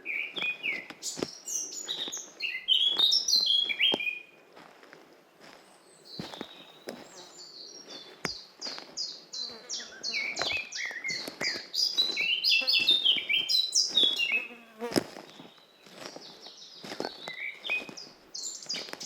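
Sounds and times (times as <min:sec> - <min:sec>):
soft footsteps on forest path: 0:00.0 - 0:19.0.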